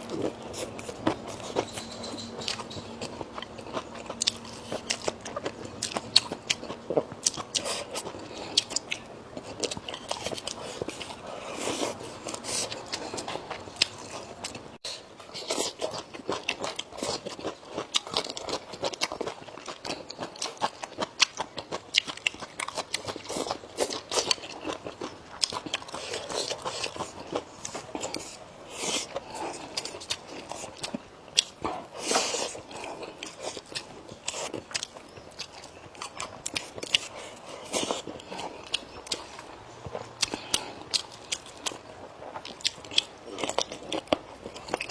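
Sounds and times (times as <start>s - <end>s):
person crunching and chewing food: 0.0s - 44.9s.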